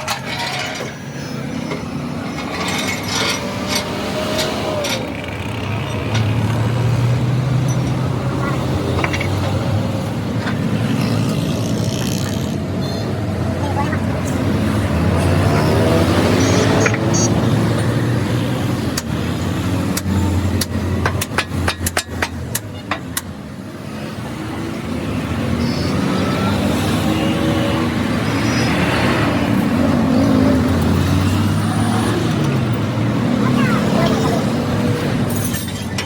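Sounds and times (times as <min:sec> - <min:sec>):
vehicle engines running: 0:00.0 - 0:36.0.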